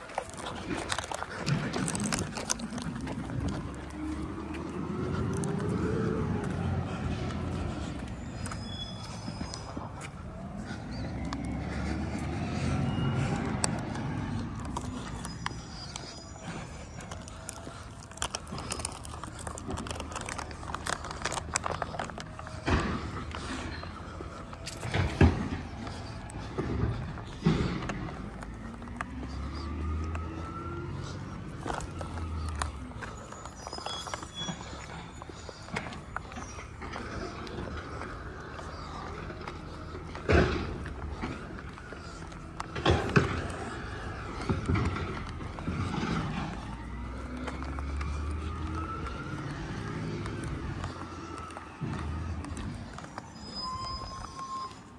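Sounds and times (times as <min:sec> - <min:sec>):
low engine rumble: 0:00.0 - 0:54.9.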